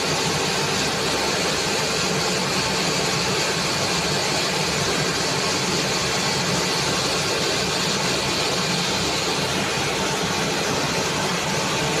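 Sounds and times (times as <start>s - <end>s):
machinery hiss: 0.0s - 12.0s.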